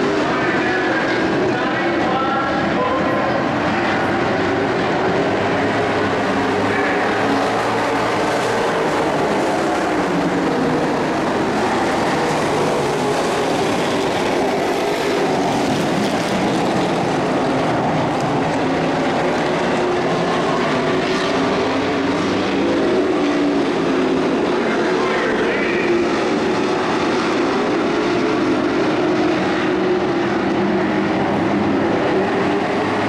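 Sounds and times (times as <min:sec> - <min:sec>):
race truck engines droning: 0:00.0 - 0:33.0.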